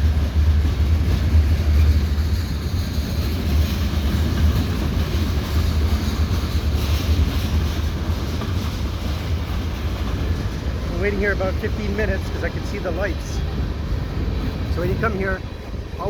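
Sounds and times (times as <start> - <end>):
freight train cars rumbling: 0.0 - 16.0.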